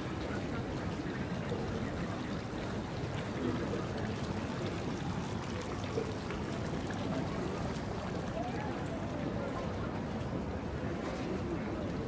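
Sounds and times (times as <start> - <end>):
street ambience rushing noise: 0.0 - 12.0.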